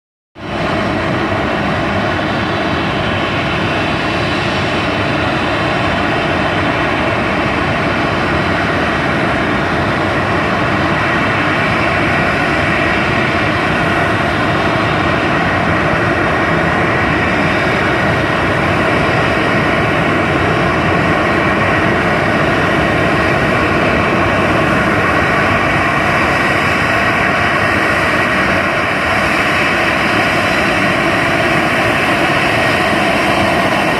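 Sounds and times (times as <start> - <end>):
jet engines running: 0.4 - 33.9.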